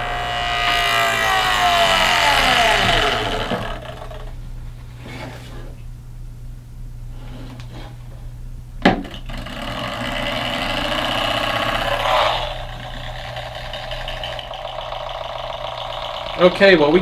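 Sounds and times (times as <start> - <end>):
heater fan motor whirring: 0.0 - 17.0.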